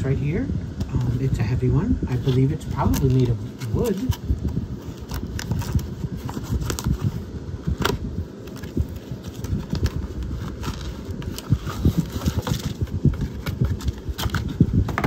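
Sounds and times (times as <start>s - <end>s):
cardboard box rustling: 2.1s - 15.0s.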